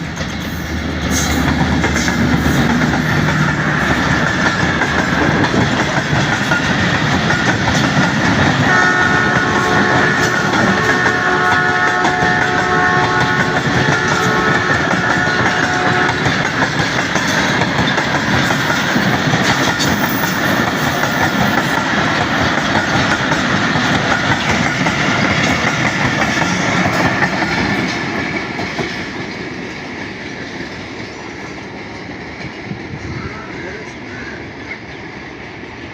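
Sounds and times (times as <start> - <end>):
train wheels clattering over rail joints: 0.0 - 33.3.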